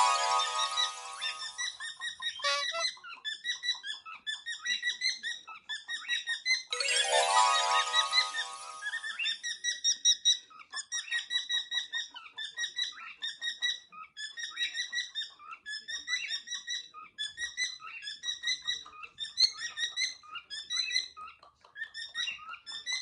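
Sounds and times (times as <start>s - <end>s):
cockatiels chirping: 1.2s - 6.6s, 8.8s - 23.0s.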